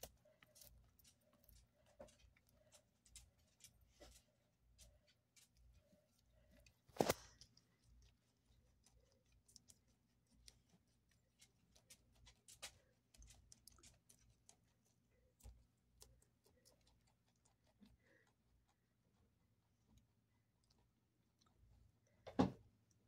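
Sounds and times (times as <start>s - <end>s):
rabbit chewing: 0.0s - 23.0s.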